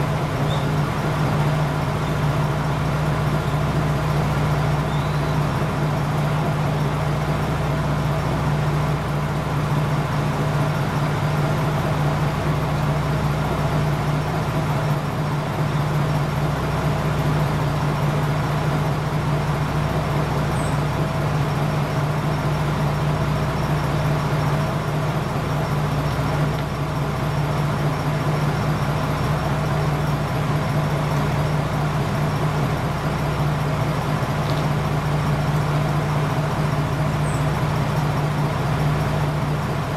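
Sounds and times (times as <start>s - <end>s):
railcar diesel engine idling: 0.0s - 39.9s.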